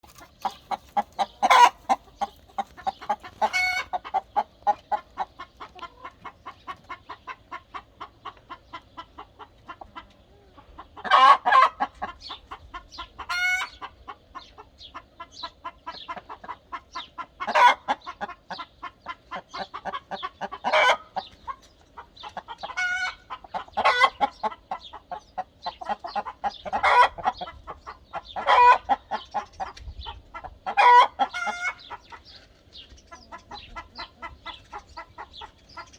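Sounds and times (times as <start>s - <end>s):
hen clucking and squawking: 0.0s - 35.9s
other hens calling: 0.0s - 35.9s.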